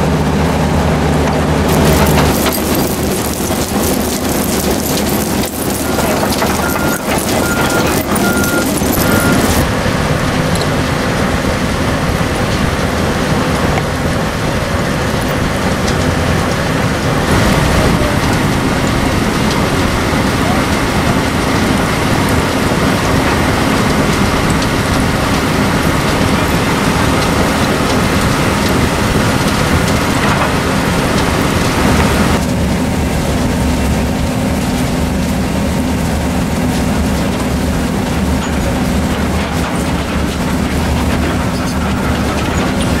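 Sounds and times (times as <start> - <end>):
machine drone with low hum: 0.0 - 43.0.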